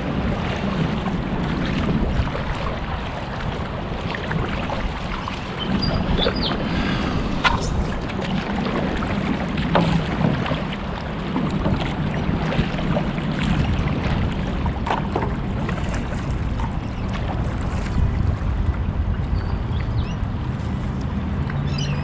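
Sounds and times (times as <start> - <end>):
short water slaps: 0.0 - 21.7
jet ski engine running: 0.0 - 22.0
water wash: 0.0 - 22.0.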